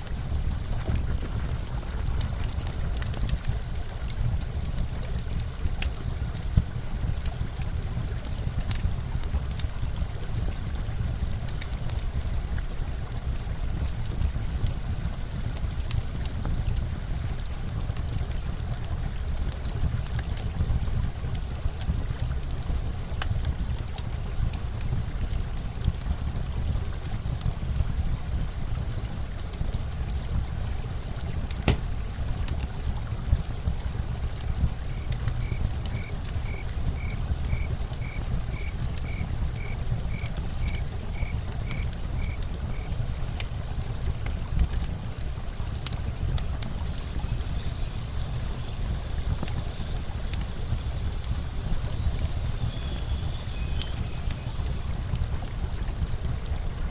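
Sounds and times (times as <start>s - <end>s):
campfire crackling and popping: 0.0s - 56.9s
running water: 0.0s - 56.9s.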